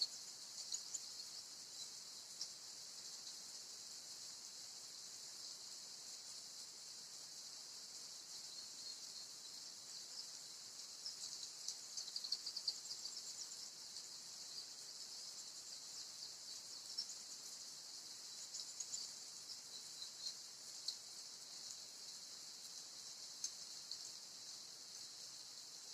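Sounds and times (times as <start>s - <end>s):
steady high hiss: 0.0s - 25.9s.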